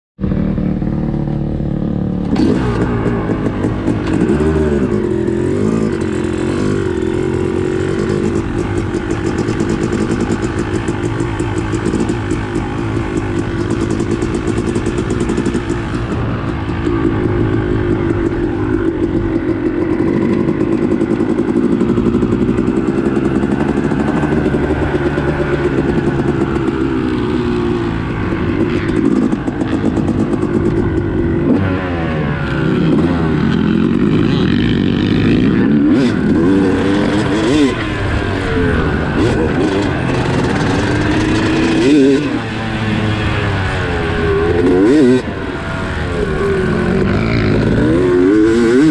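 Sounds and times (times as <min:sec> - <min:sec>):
dirt bike engine revving: 0:00.2 - 0:48.9.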